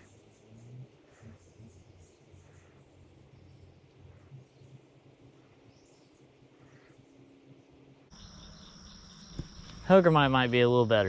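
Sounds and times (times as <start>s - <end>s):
faint high-pitched chirps: 0.0s - 10.5s.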